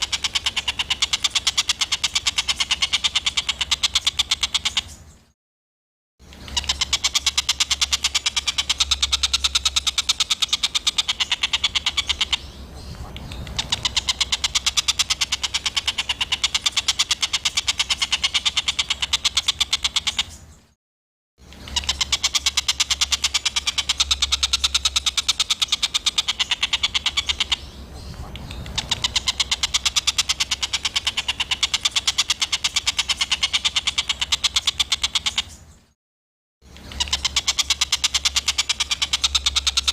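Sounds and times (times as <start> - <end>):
harsh rattling bird calls: 0.0 - 5.4, 6.2 - 20.8, 21.4 - 36.0, 36.6 - 39.9.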